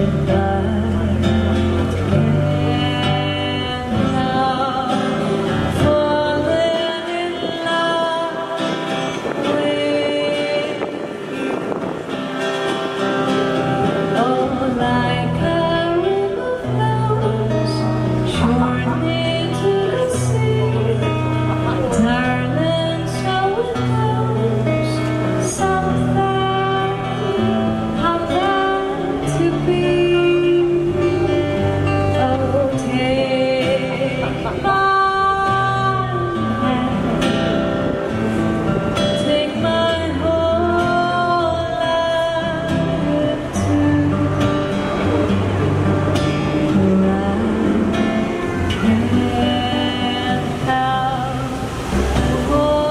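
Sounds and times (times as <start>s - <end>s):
strummed acoustic guitar: 0.0s - 52.9s
woman singing into a microphone: 0.0s - 52.9s.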